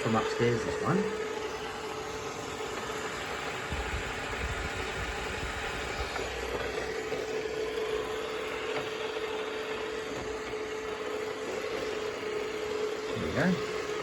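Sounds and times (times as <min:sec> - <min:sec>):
robot vacuum motor hum: 0:00.0 - 0:14.0
steady whining tone: 0:00.0 - 0:14.0.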